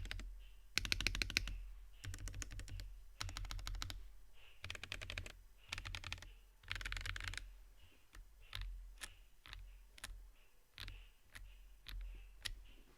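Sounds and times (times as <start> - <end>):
mechanical keyboard typing: 0.0 - 4.0, 4.6 - 7.5, 8.1 - 10.2, 10.8 - 12.6.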